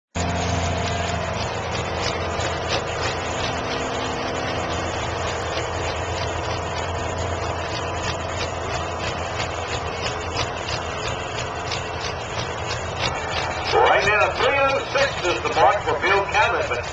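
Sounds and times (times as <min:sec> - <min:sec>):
tractor diesel engine running: 0:00.1 - 0:16.9.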